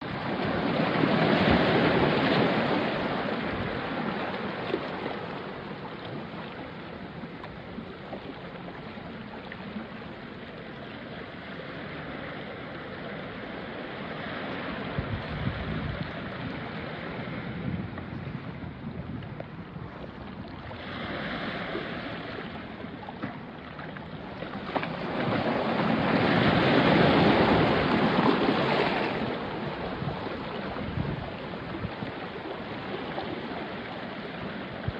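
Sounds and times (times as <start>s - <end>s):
waves washing onto rocks: 0.0s - 34.9s.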